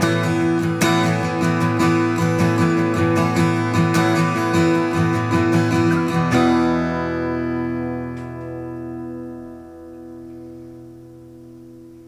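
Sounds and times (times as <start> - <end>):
guitar chord ringing out: 0.0 - 12.0.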